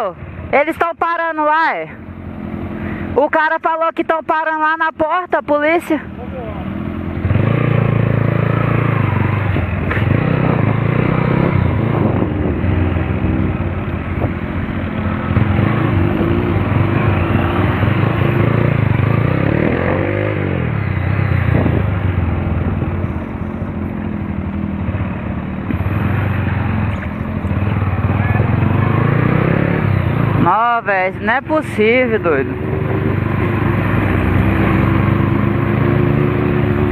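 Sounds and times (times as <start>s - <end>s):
motorcycle engine revving: 4.5s - 36.9s.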